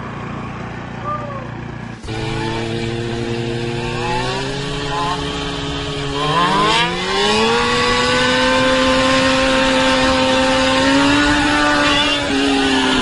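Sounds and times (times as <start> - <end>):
motor scooter engine: 0.0 - 13.0.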